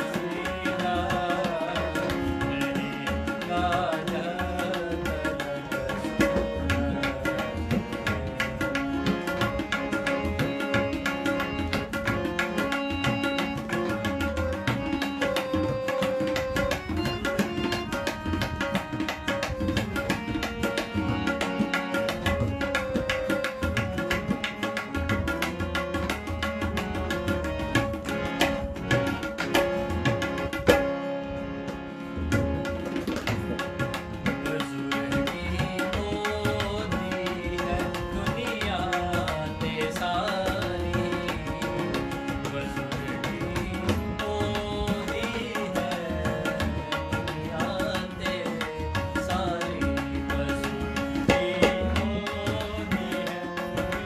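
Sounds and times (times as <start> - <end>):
tabla playing fast rhythm: 0.0 - 54.0.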